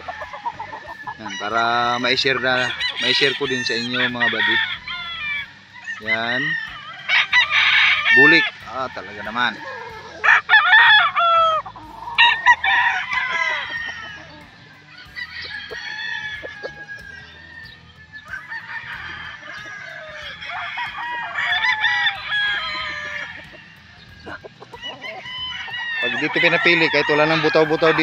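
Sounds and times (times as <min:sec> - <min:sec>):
roosters crowing: 0:00.0 - 0:28.0.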